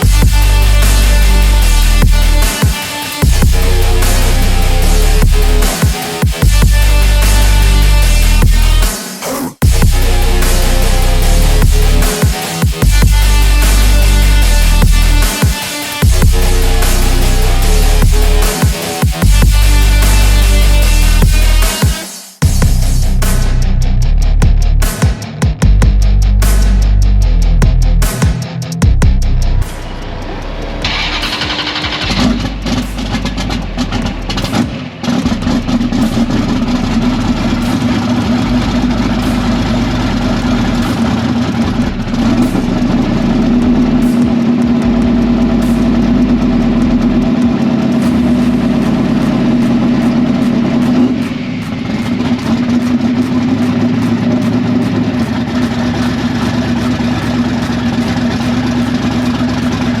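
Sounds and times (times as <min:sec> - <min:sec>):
vehicle engine running: 0:00.0 - 0:08.9, 0:09.6 - 0:15.3, 0:16.0 - 0:21.6, 0:28.8 - 1:00.0.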